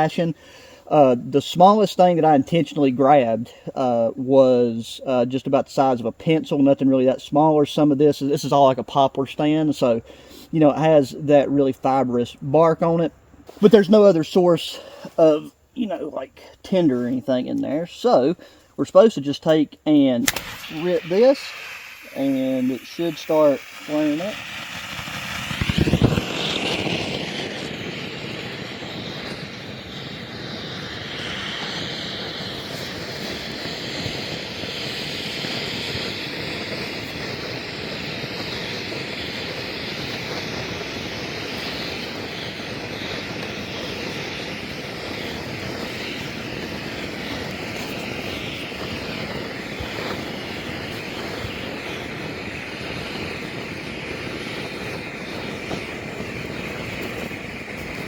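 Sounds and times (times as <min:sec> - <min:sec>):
fire starter hissing: 0:00.0 - 0:58.0.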